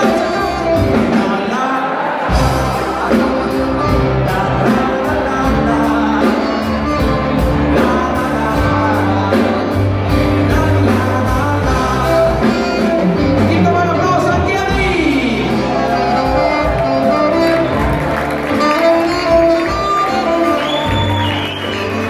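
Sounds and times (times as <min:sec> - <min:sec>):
saxophone: 0:00.0 - 0:01.5, 0:02.4 - 0:14.3, 0:15.0 - 0:22.0
person singing: 0:00.0 - 0:17.8
drums: 0:00.0 - 0:22.0
piano: 0:00.0 - 0:22.0
rock and roll band playing: 0:00.0 - 0:22.0.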